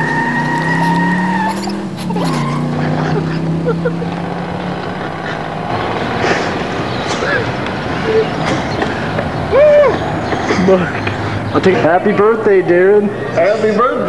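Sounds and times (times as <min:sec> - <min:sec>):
car engine running: 0:00.0 - 0:14.0
tyres squealing: 0:00.0 - 0:14.0.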